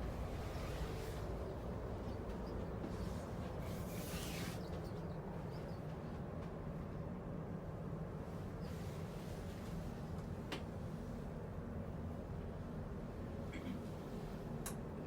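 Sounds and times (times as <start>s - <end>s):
ship cabin hum and rumble: 0.0s - 15.0s.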